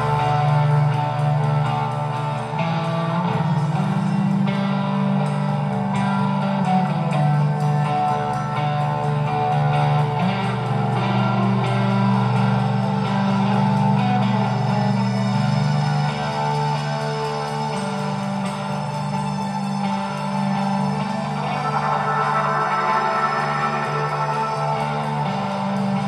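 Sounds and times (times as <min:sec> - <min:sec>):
long-held bass notes: 0:00.0 - 0:26.0
strummed guitars: 0:00.0 - 0:26.0.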